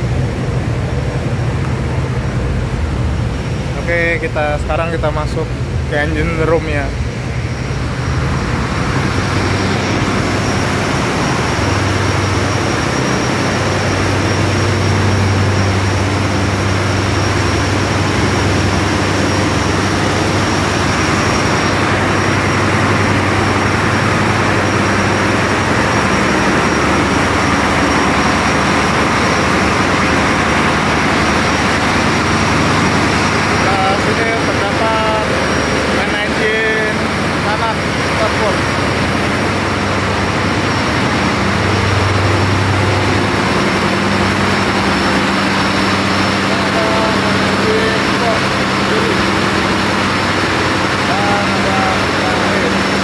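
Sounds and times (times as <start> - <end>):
engine room machinery drone: 0.0 - 53.0
thin high whine: 0.0 - 53.0.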